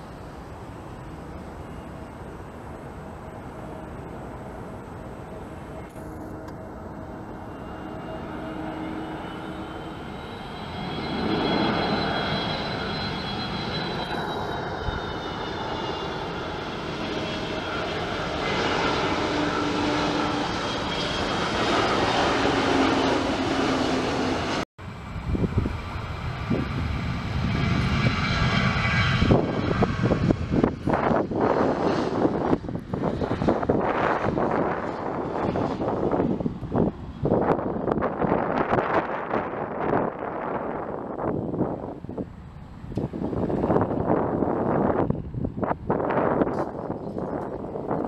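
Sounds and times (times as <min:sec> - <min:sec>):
high engine whine: 0:00.0 - 0:48.0
jet engines running: 0:00.0 - 0:48.0
wind buffeting microphone: 0:04.8 - 0:48.0.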